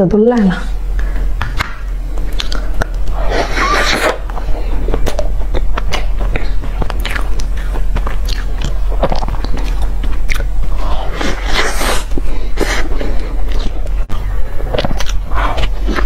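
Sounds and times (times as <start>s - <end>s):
person chewing food: 0.8s - 16.0s.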